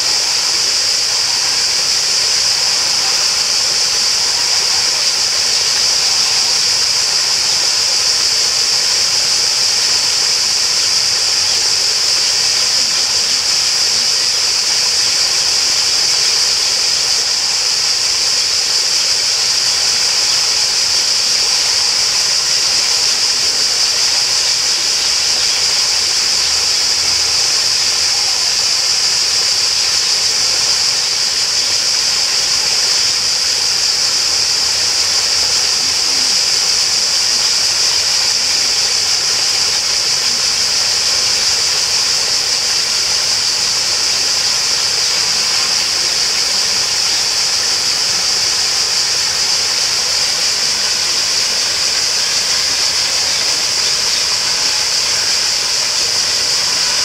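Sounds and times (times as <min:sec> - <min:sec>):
water flowing: 0:00.0 - 0:57.0.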